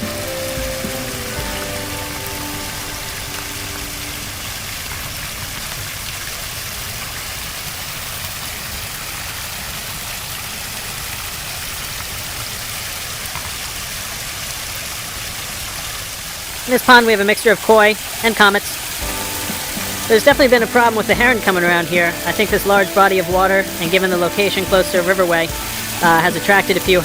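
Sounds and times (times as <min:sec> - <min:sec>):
waterfall pouring into pond: 0:00.0 - 0:27.0.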